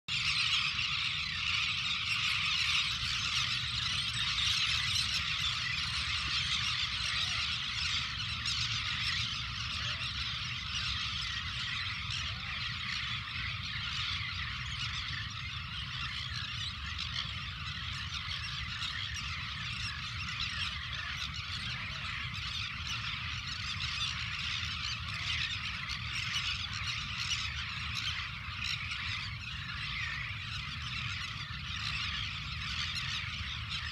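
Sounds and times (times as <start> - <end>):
chorus of birds calling: 0.1 - 33.9.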